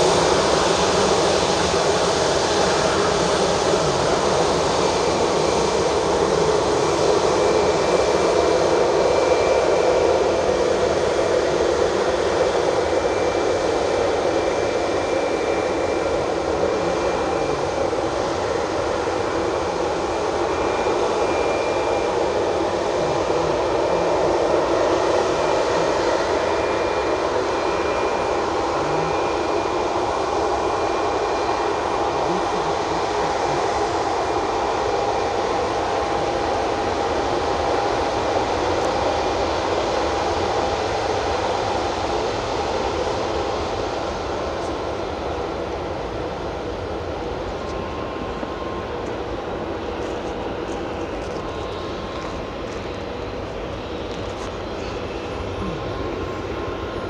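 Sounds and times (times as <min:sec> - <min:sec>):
faint high whine: 0:00.0 - 0:57.0
jet engines rushing: 0:00.0 - 0:57.0.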